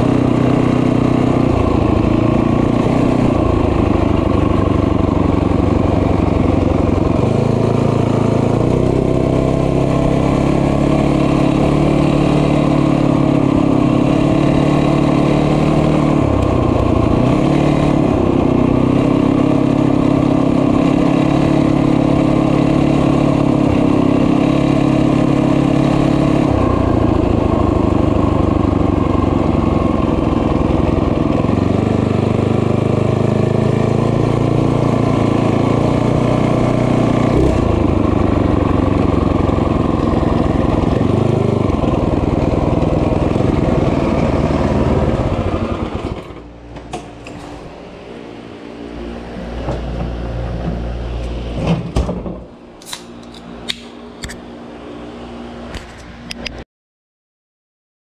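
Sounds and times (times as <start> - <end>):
small motorbike engine revving: 0.0 - 47.9.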